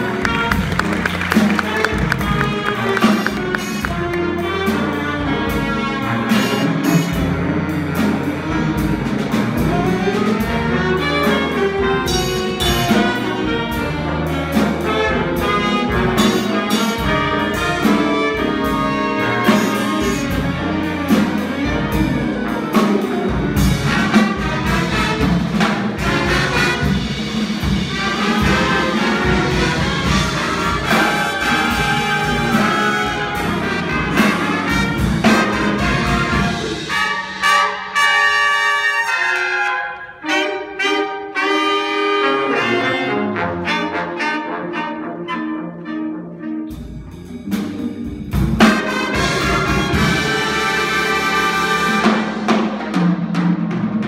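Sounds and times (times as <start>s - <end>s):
jazz band playing: 0.0s - 54.0s
trumpets and trombones: 0.0s - 54.0s.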